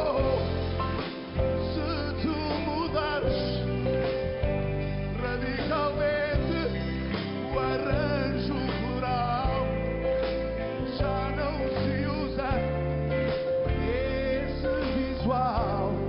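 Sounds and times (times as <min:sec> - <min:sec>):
backing band playing: 0:00.0 - 0:16.0
man singing pop ballad: 0:00.0 - 0:16.0.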